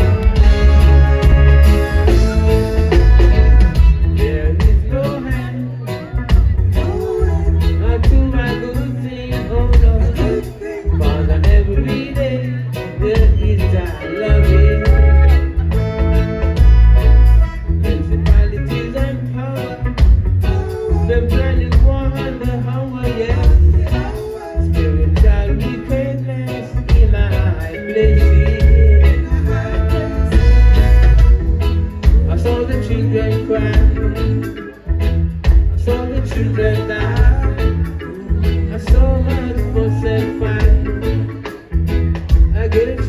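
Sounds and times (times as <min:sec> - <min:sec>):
sung vocals: 0:00.0 - 0:16.5, 0:17.7 - 0:43.0
drums on a steady beat: 0:00.0 - 0:43.0
guitar: 0:00.0 - 0:43.0
heavy bass: 0:00.0 - 0:43.0
live reggae band playing: 0:00.0 - 0:43.0.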